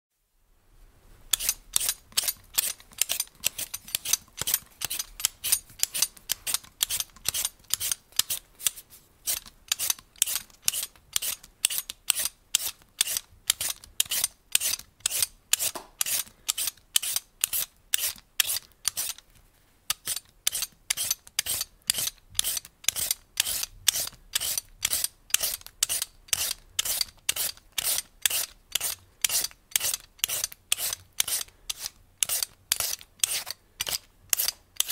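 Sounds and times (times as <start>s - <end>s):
peeler scraping food skin: 1.3s - 34.9s.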